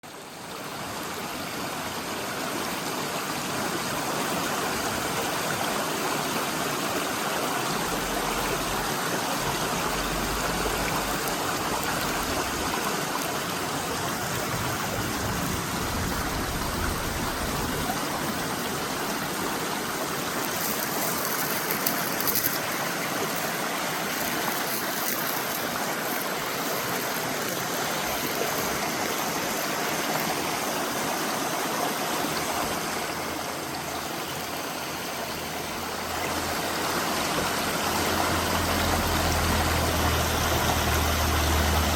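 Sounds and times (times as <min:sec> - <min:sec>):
stream flowing water: 0:00.0 - 0:41.9.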